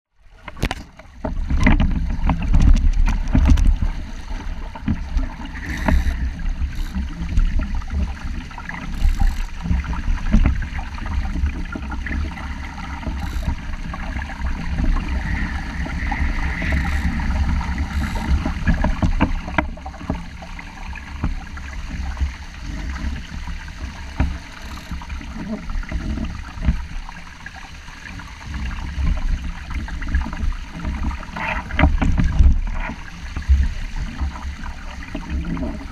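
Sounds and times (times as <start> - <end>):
water rushing along a boat hull: 0.1 - 35.9
wind buffeting the microphone: 0.5 - 27.2, 28.6 - 35.9.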